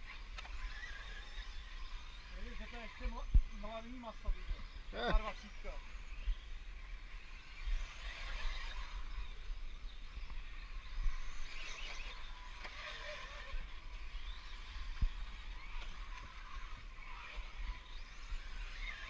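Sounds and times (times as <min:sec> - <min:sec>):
rc car motors whining: 0:00.0 - 0:19.0.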